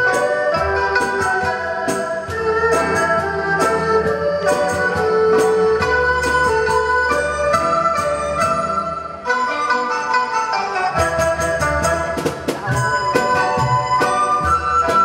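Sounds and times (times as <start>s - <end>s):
sharp percussive strokes: 0.0s - 15.0s
small orchestra playing: 0.0s - 15.0s.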